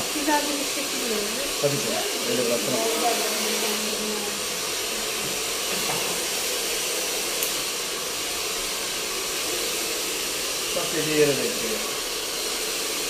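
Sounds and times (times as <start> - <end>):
hair dryer hissing: 0.0 - 13.0.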